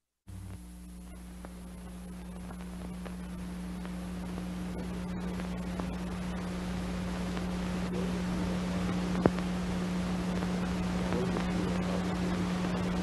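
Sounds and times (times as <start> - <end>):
hiss with faint crackles: 0.3 - 13.0
low hum: 0.3 - 13.0.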